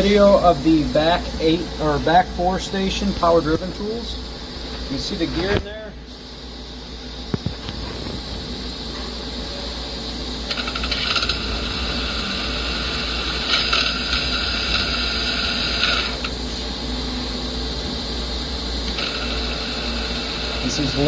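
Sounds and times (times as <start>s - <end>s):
machine spindles humming: 0.0s - 21.0s.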